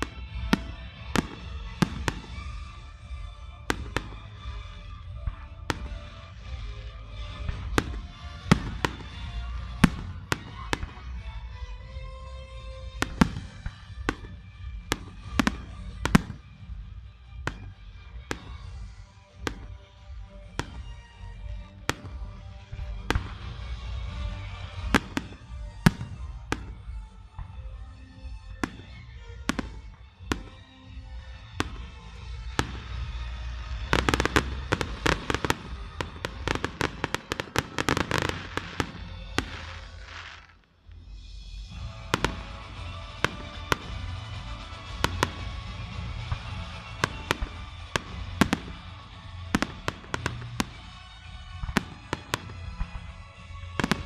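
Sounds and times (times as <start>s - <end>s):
firework crackling: 0.0s - 11.3s, 13.0s - 54.0s
music: 0.0s - 54.0s.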